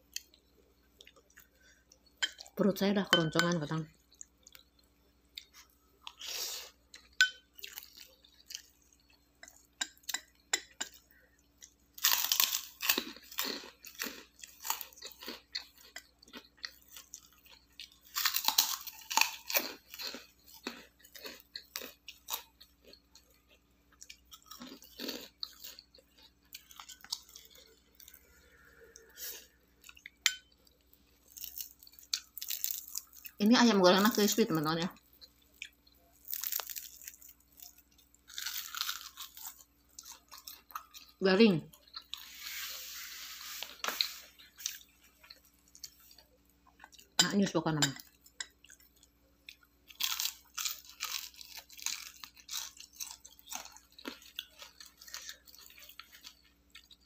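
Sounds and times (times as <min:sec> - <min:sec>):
person chewing crunchy food: 0:04.0 - 0:33.4, 0:35.0 - 0:47.2, 0:48.0 - 0:57.0.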